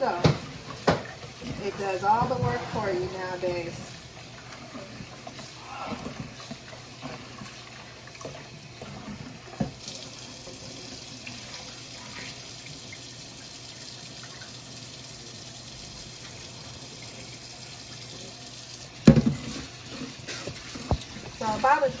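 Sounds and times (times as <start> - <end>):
tap running water: 0.0 - 22.0.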